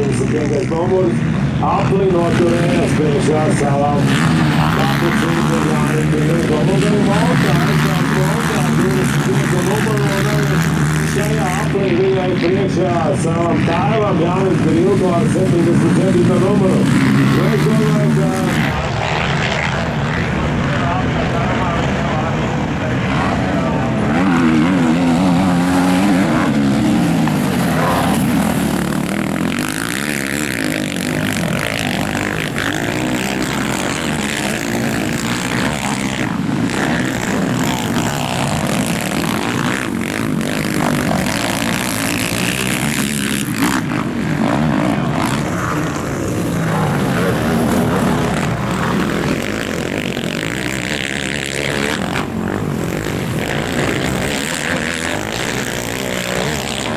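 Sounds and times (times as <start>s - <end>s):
quad engines revving: 0.0s - 56.9s.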